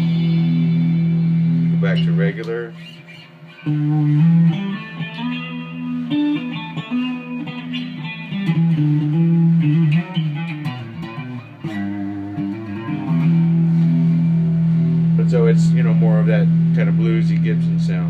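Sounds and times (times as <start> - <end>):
bluesy electric guitar notes: 0.0 - 18.0.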